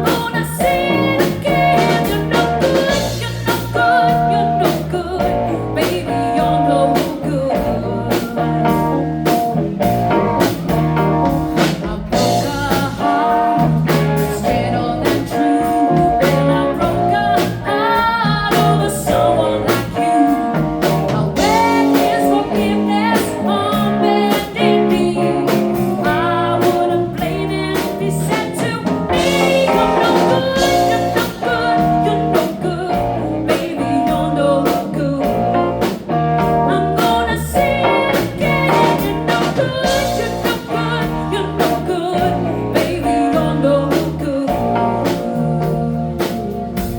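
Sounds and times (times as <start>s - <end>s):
person singing: 0.0s - 9.1s, 11.6s - 46.9s
blues-rock band playing: 0.0s - 46.9s.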